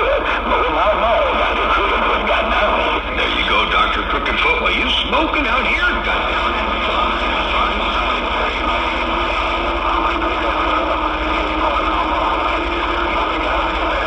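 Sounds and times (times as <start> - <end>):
radio static: 0.0 - 14.0.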